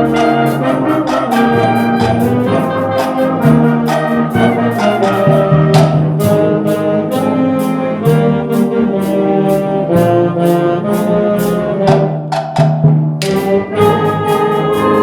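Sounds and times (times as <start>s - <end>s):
percussion hits: 0.0s - 7.8s, 9.5s - 15.0s
brass and woodwind chords: 0.0s - 12.5s, 13.2s - 15.0s.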